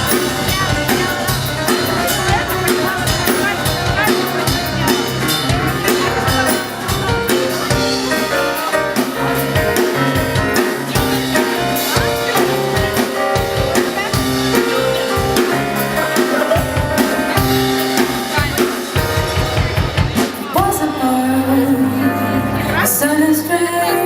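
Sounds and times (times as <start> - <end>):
drum kit: 0.0 - 24.0
jazz piano: 0.0 - 24.0.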